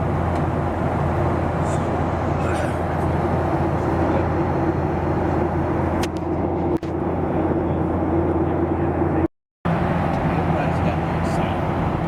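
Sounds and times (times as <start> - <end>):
airplane cabin roar: 0.0 - 12.0
low engine hum: 0.0 - 12.0.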